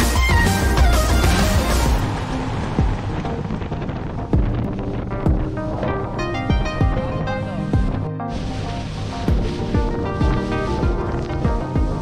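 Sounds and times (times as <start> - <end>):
background music with sustained tones: 0.0 - 12.0.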